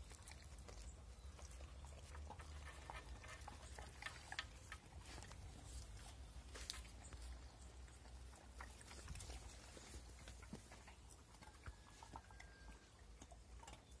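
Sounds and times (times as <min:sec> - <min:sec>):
dogs chewing food: 0:00.0 - 0:14.0.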